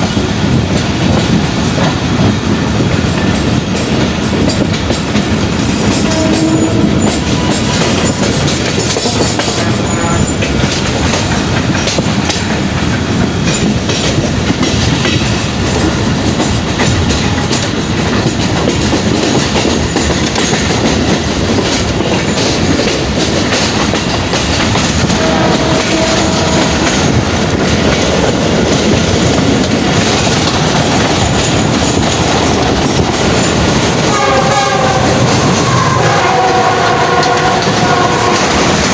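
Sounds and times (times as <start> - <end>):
train wheels on rails: 0.0 - 38.9.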